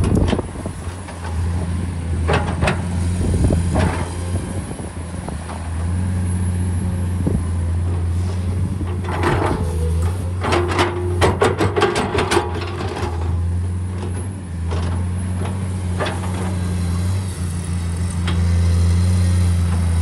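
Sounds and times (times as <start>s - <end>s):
diesel excavator engine running: 0.0s - 20.0s.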